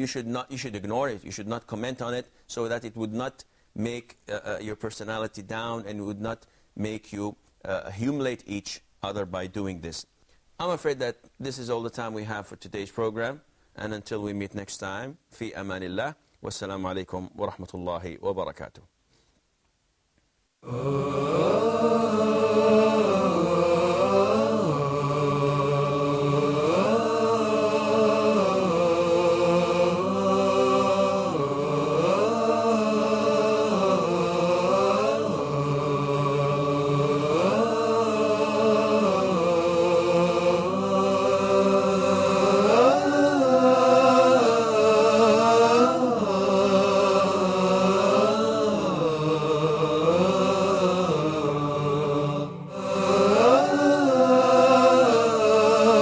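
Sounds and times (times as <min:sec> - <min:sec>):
chanted vocal music: 0:00.0 - 0:09.8, 0:20.6 - 0:56.0.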